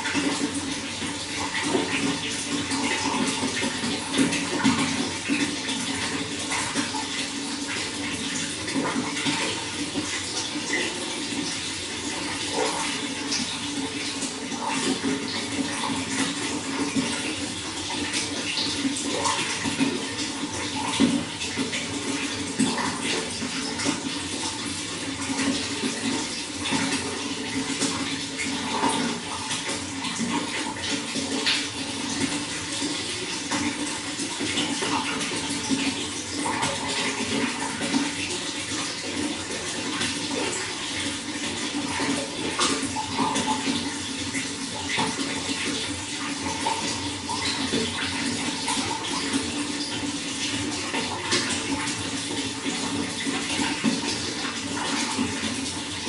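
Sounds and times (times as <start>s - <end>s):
running water with gurgles: 0.0s - 56.0s.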